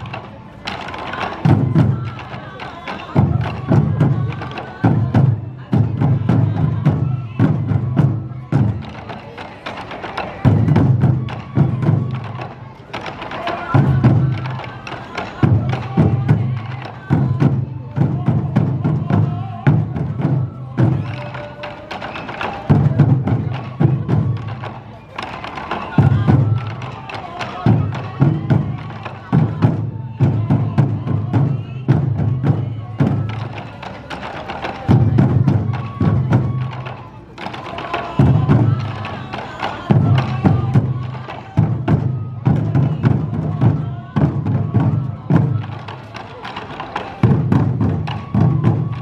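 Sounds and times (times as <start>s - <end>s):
bamboo flute melody: 0.0s - 49.0s
taiko drums booming: 0.0s - 49.0s.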